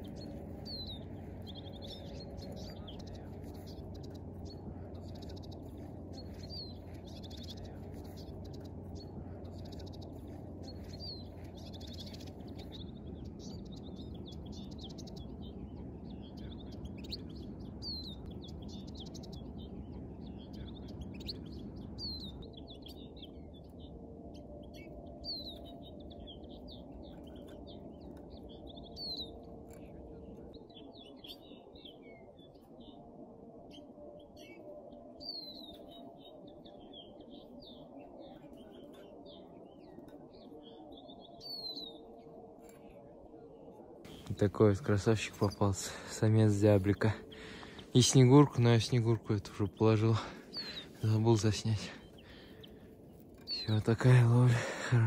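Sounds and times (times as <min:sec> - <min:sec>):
finches chirping and trilling: 0:00.0 - 0:55.0
low background rumble: 0:00.0 - 0:55.0.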